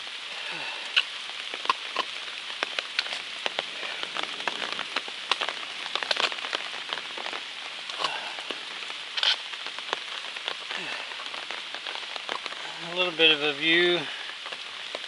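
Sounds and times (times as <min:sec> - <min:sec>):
raindrops tapping close by: 0:00.0 - 0:15.0
steady rain hiss: 0:00.0 - 0:15.0.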